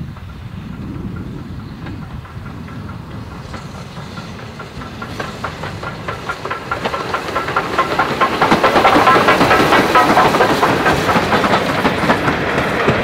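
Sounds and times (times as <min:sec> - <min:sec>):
steam engine hiss: 0:00.0 - 0:13.0
steam locomotive beats: 0:00.0 - 0:13.0.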